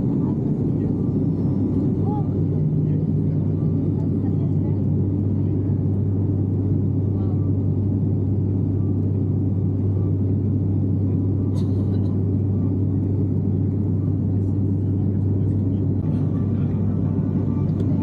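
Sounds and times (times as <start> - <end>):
airliner cabin engine drone: 0.0 - 18.0.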